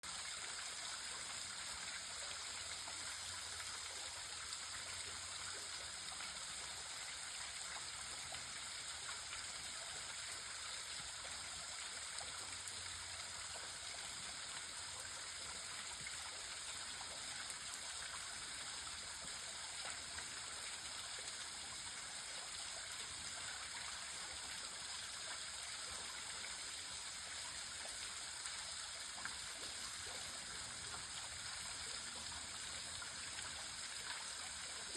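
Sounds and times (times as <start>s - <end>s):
trickle of water splashing: 0.1s - 34.9s.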